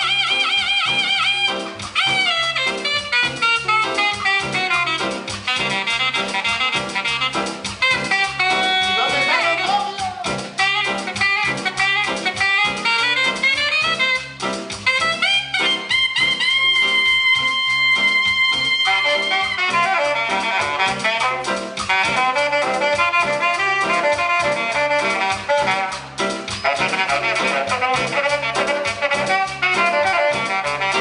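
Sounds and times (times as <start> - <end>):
live band with horn section: 0.0 - 31.0.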